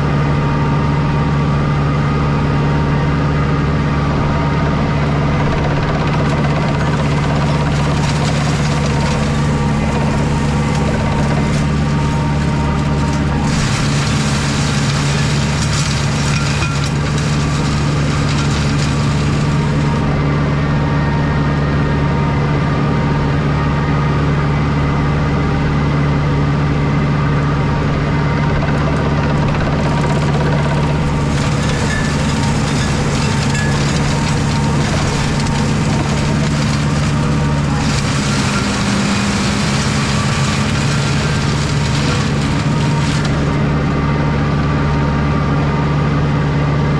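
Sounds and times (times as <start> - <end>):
mulcher shredding brambles: 0.0 - 22.4, 27.1 - 46.9
tractor engine under load: 0.0 - 46.9.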